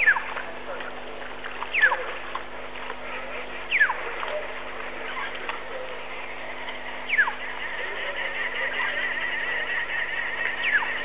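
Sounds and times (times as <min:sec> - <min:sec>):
faint bird chirps: 0:00.0 - 0:00.5, 0:01.6 - 0:02.3, 0:03.0 - 0:11.0.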